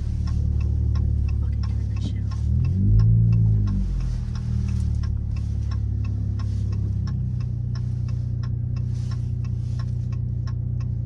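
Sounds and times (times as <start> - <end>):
car engine droning: 0.0 - 11.0
turn signal clicking: 0.0 - 11.0.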